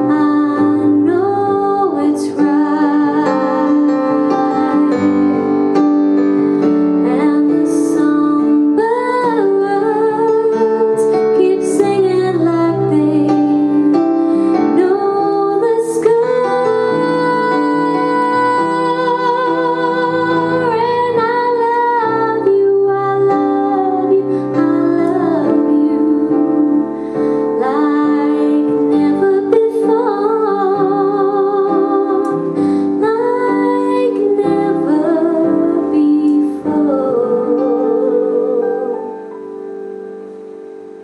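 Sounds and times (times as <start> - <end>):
woman singing slow song: 0.0 - 5.5, 6.9 - 39.6
piano accompaniment: 0.0 - 41.0.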